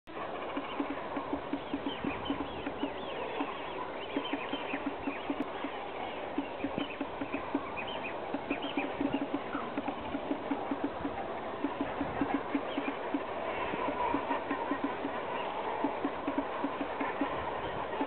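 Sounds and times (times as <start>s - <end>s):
birds short low calls: 0.2s - 18.0s
higher bird chirps: 0.6s - 16.9s.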